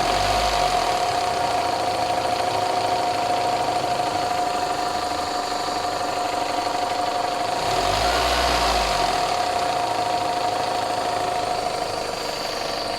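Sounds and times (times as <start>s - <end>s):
engine idling with knocking clatter: 0.0s - 12.9s.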